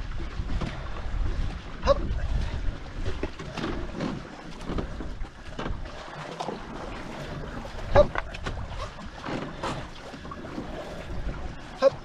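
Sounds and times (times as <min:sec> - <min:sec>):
paddle strokes: 0:00.0 - 0:12.0
water splashing along hull: 0:00.0 - 0:12.0.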